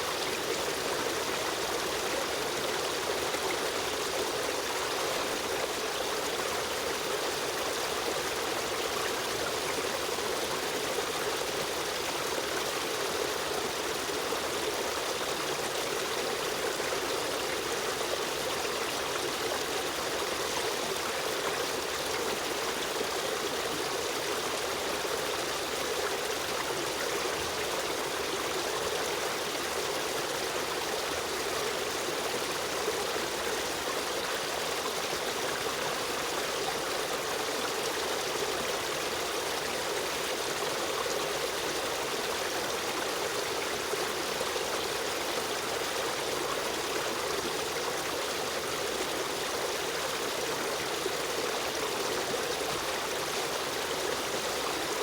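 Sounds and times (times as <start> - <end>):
river stream flowing: 0.0 - 55.0.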